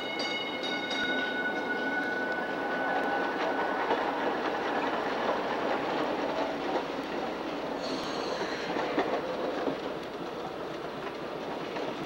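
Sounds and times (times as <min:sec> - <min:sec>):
streetcar wheels on rails: 0:00.0 - 0:12.0.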